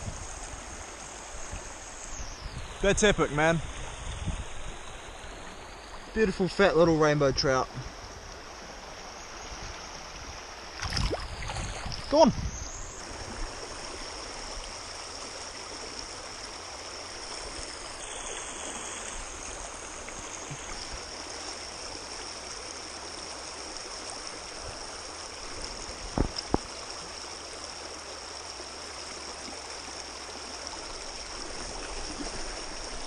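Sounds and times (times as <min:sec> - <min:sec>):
gravel creek rushing and trickling: 0:00.0 - 0:33.0.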